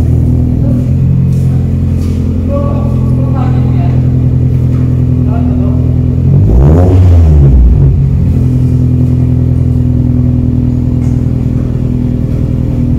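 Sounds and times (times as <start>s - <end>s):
car engine throttle blip and idle: 0.0s - 6.3s, 7.6s - 12.9s.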